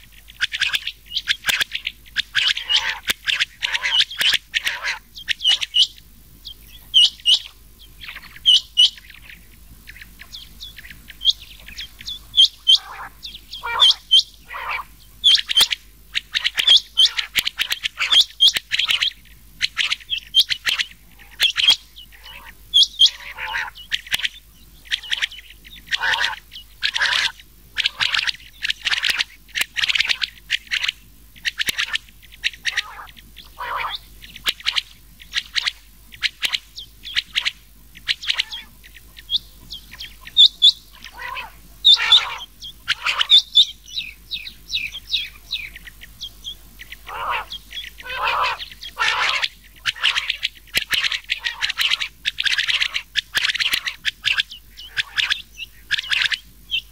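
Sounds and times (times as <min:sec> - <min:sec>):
quail calls: 0:00.0 - 0:56.9.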